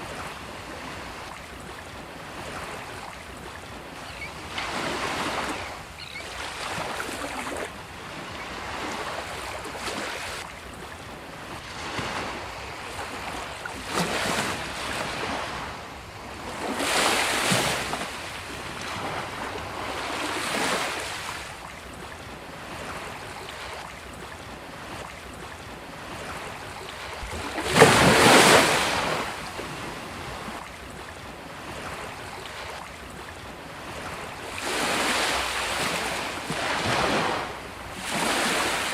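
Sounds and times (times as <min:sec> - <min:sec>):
sea waves breaking on a beach: 0:00.0 - 0:38.9.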